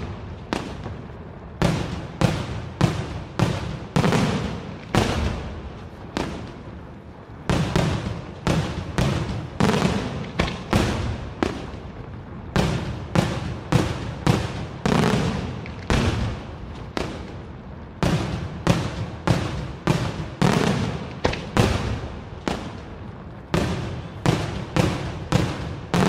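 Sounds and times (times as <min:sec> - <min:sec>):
fireworks bursting with echoing bangs: 0:00.0 - 0:26.0.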